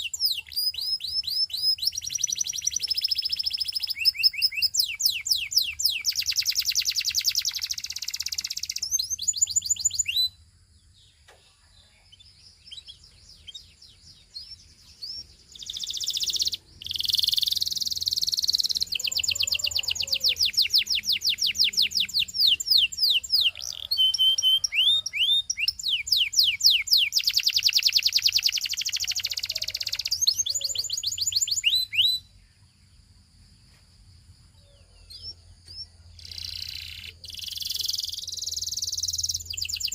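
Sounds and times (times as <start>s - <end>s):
canary singing: 0.0s - 10.4s, 11.9s - 32.7s, 34.6s - 39.9s.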